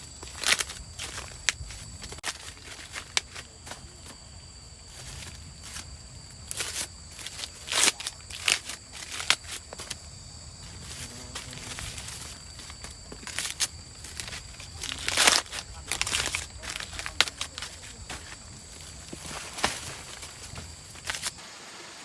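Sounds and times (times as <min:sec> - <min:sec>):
dry plants rustling and crackling: 0:00.0 - 0:21.4.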